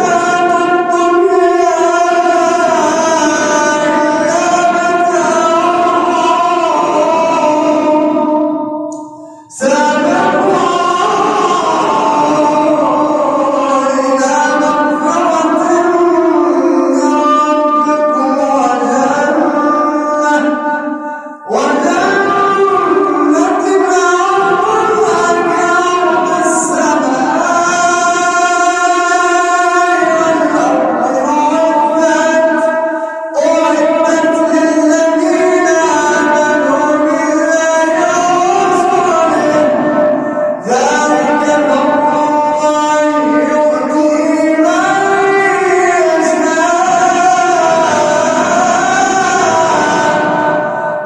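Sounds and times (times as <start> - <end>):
man chanting melodically: 0.0 - 51.0.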